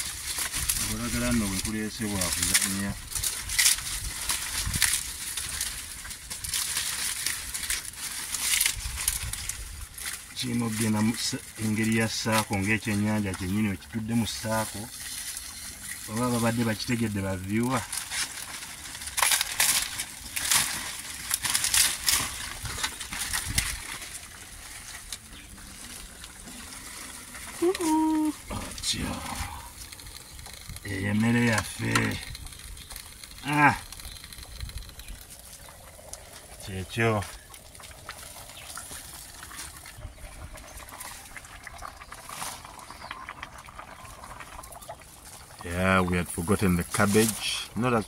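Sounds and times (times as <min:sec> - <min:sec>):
leaves crackling and rustling on fire: 0:00.0 - 0:48.0
wood fire crackling: 0:00.0 - 0:48.0.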